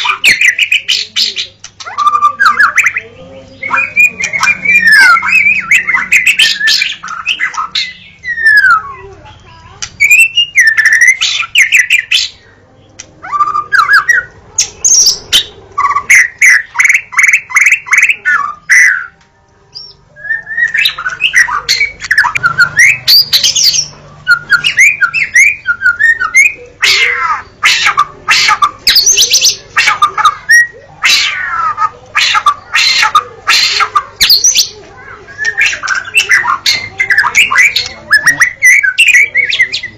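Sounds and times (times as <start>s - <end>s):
songbird singing whistles and trills: 0.0s - 9.2s, 9.8s - 12.4s, 13.0s - 39.9s.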